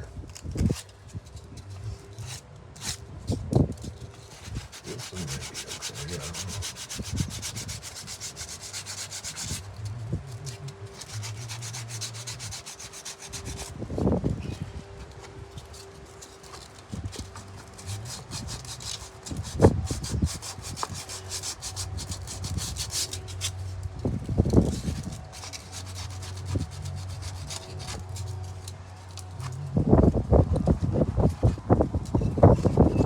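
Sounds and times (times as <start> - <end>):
hand sanding strokes: 1.7 - 29.6.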